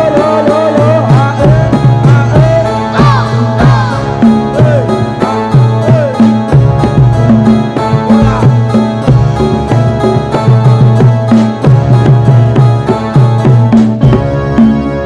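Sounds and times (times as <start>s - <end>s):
quick drum strokes: 0.0s - 14.3s
bending melodic line: 1.1s - 15.0s.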